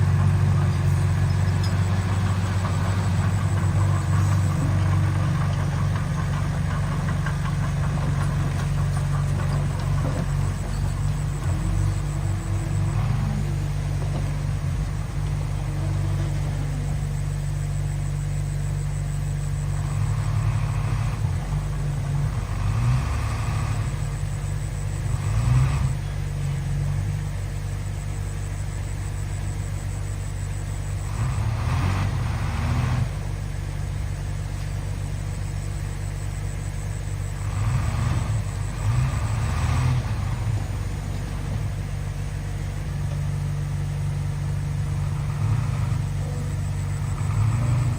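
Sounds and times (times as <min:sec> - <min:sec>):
heavy machinery diesel engine running: 0:00.0 - 0:47.9.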